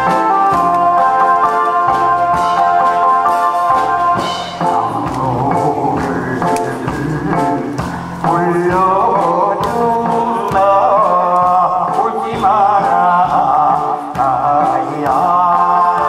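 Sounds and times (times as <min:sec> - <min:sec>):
instrumental accompaniment: 0:00.0 - 0:16.0
man singing into a microphone: 0:00.0 - 0:16.0.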